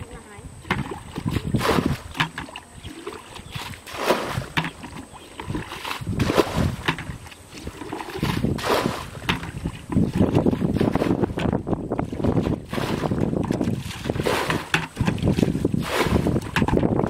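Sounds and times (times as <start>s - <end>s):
fish splashing in water: 0.7s - 17.0s.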